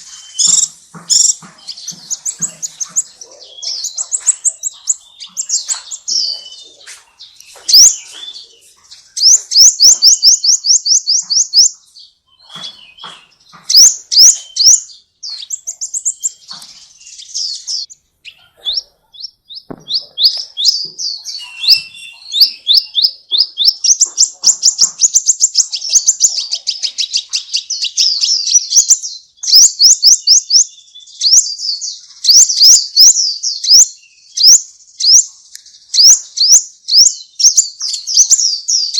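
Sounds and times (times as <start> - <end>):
songbird trilling: 0.0 - 38.9.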